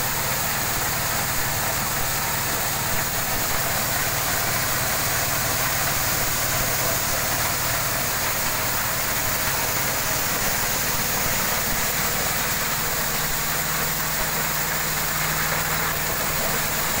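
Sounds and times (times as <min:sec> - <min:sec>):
corn kernels pouring: 0:00.0 - 0:17.0
corn sheller engine running: 0:00.0 - 0:17.0.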